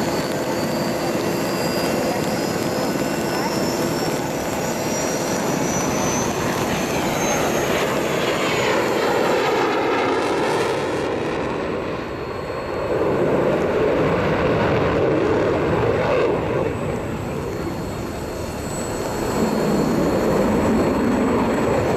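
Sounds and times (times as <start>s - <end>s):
jet engine roaring: 0.0s - 21.9s.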